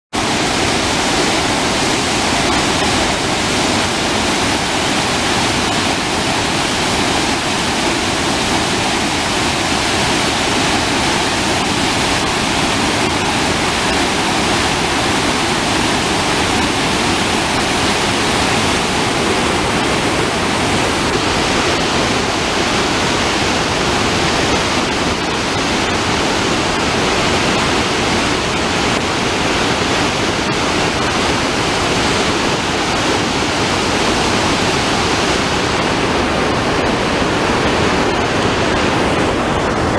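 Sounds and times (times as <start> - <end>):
water rushing over rocks: 0.1 - 39.9.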